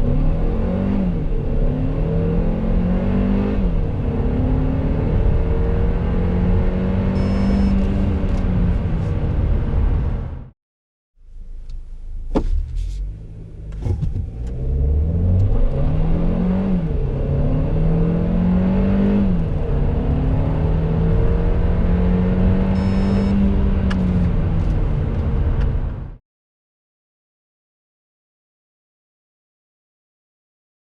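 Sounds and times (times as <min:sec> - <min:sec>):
car engine accelerating: 0:00.0 - 0:10.5, 0:11.2 - 0:26.2.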